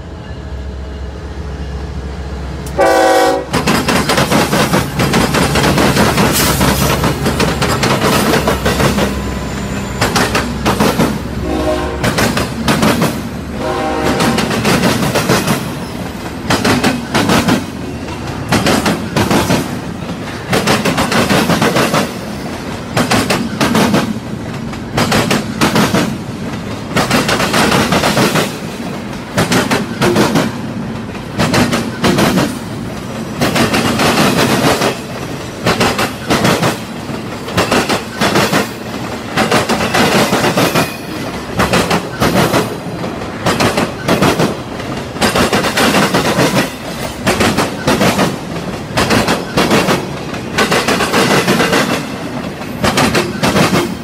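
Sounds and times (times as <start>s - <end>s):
freight train rumble: 0.0s - 54.0s
train wheels clacking over rails: 2.6s - 54.0s.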